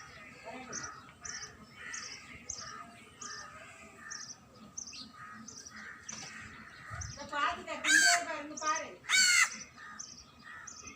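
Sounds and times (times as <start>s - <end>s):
bird chirping: 0.0s - 10.9s
soft bird calls: 0.0s - 10.9s.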